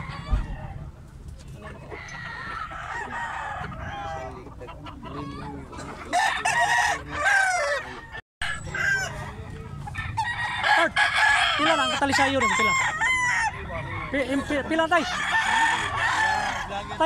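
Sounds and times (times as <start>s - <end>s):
roosters crowing: 0.0s - 1.0s, 1.6s - 17.0s.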